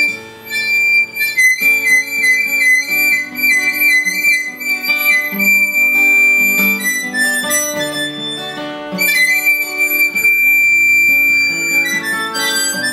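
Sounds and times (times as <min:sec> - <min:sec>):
harmonica: 0:00.0 - 0:12.9
plucked guitar: 0:00.0 - 0:12.9.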